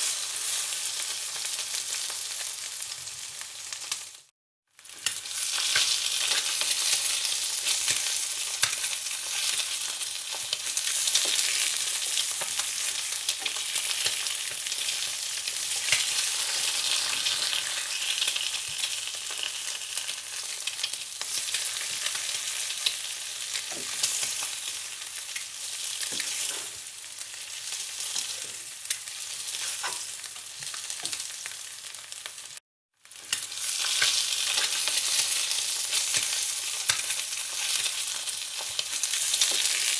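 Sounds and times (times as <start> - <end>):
food frying in hot oil: 0.0 - 39.9.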